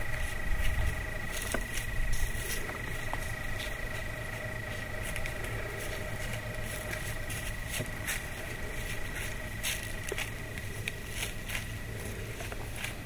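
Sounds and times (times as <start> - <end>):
deer walking through dry leaves: 0.0 - 13.0
faint low hum: 0.0 - 13.0.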